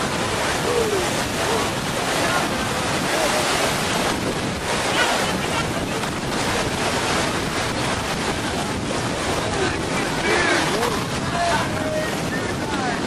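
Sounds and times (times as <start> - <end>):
seawater: 0.0 - 13.0
wind on microphone: 0.0 - 13.0
faint voices: 0.2 - 13.0.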